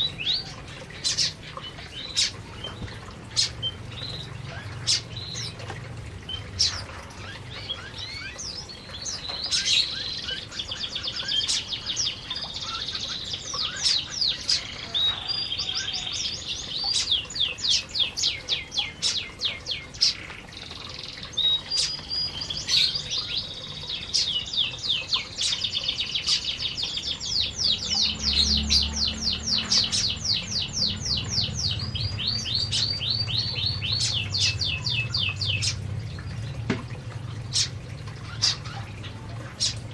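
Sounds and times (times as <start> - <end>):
canaries singing: 0.0 - 39.9.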